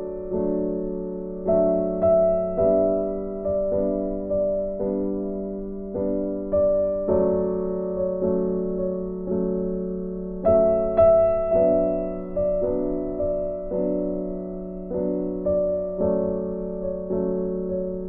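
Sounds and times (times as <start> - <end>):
soft piano melody: 0.0 - 18.0.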